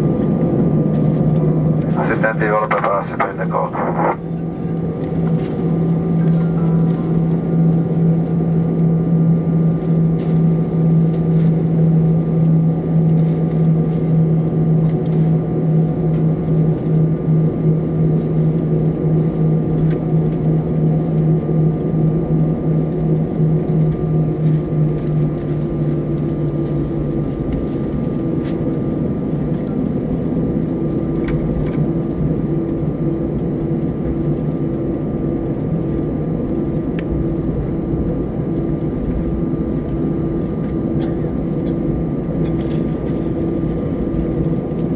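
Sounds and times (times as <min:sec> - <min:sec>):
aircraft cabin rumble: 0:00.0 - 0:44.9
low pulsing engine drone: 0:00.0 - 0:44.9.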